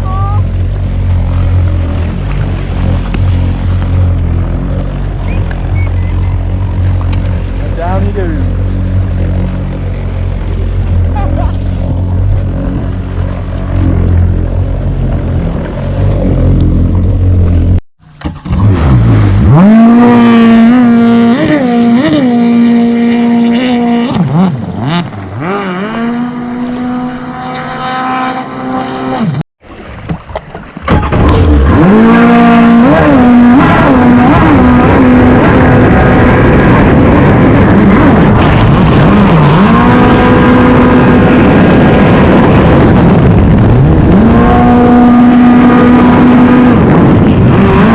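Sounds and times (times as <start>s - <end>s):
jet ski engine revving: 0.0s - 29.4s, 30.9s - 47.9s.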